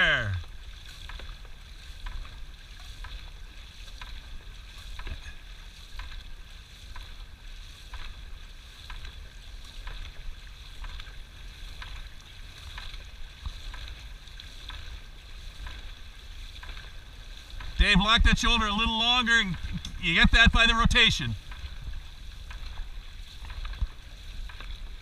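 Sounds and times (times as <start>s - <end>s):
wind rumble on microphone: 0.0s - 20.6s, 21.3s - 25.0s
paddles splashing water: 0.0s - 25.0s.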